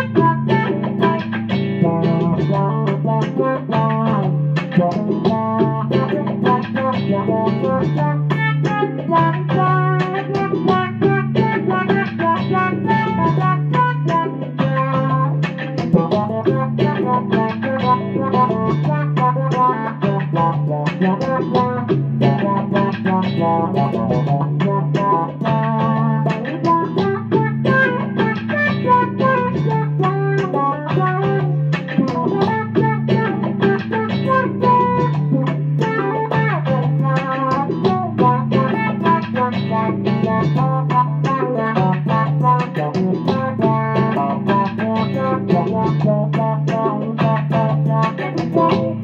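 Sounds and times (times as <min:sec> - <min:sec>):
electric guitar with envelope filter: 0:00.0 - 0:49.0
low bass line: 0:00.0 - 0:49.0.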